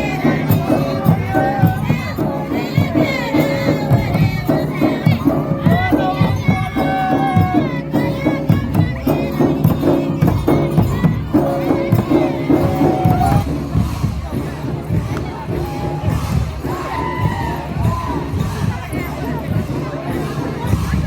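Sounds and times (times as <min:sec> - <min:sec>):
crowd noise: 0:00.0 - 0:21.0
steady drum beat: 0:00.0 - 0:21.0.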